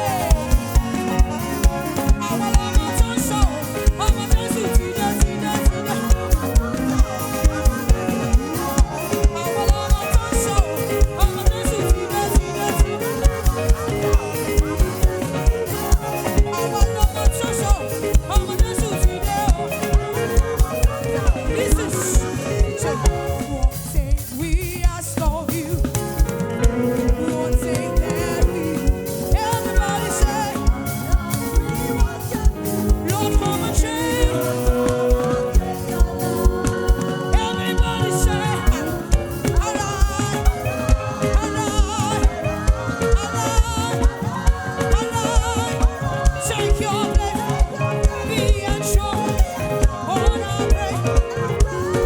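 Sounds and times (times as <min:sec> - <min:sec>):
gospel band playing: 0:00.0 - 0:52.0
people singing: 0:00.0 - 0:52.0.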